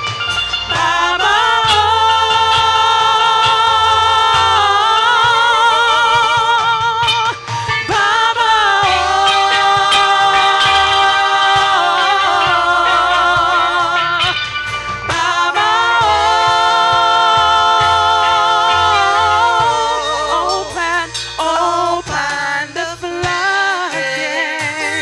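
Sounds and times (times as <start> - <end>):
low bass line: 0.0 - 23.8
gospel singing with vibrato: 0.0 - 25.0.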